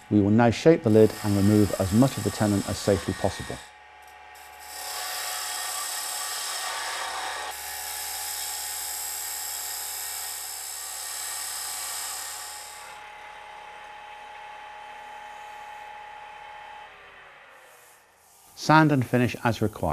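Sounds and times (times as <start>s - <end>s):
box cutter shaving spinning wood: 0.0s - 16.3s
lathe motor whine: 0.0s - 19.3s.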